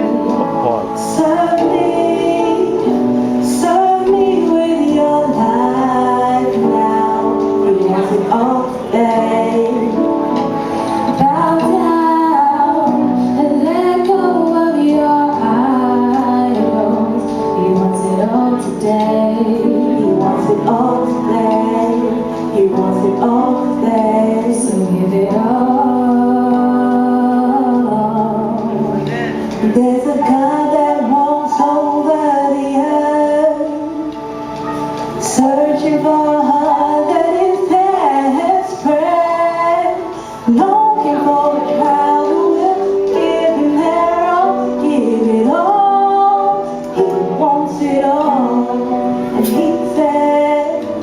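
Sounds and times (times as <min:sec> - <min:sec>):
gospel music accompaniment: 0:00.0 - 0:51.0
woman singing long sliding notes: 0:00.0 - 0:51.0.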